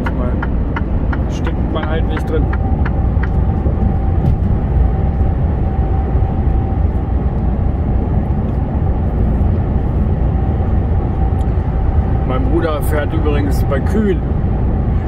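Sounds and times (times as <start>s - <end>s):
lorry diesel engine rumble: 0.0s - 15.0s
road noise: 0.0s - 15.0s.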